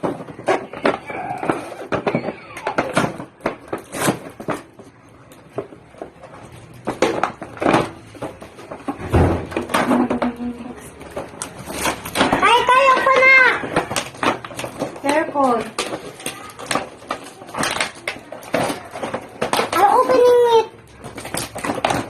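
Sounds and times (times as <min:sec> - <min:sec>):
plastic toy packaging clicks and rustles: 0:00.0 - 0:22.0.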